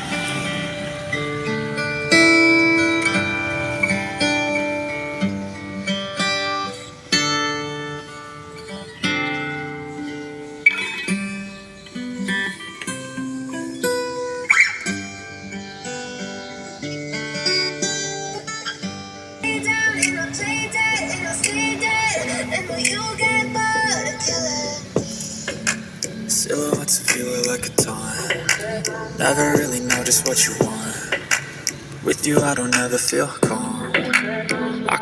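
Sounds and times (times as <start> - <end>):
acoustic guitar plucking and strumming: 0.0 - 35.0.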